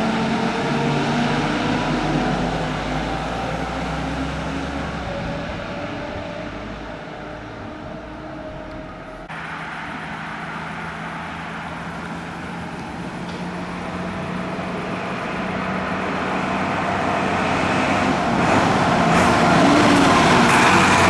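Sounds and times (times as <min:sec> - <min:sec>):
fire engine engine: 0:00.0 - 0:21.0
vehicle driving past: 0:00.0 - 0:21.0.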